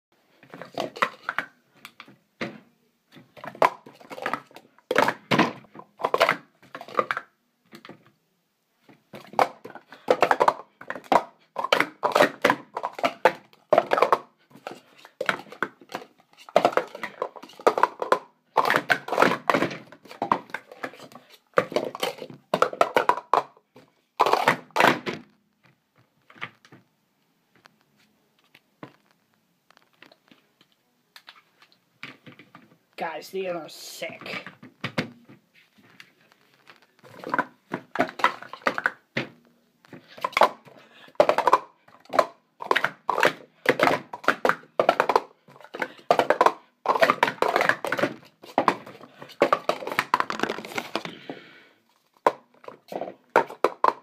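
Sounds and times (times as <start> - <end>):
plastic cups clacking: 0.3 - 8.1, 9.0 - 25.4, 34.0 - 35.2, 35.8 - 54.0.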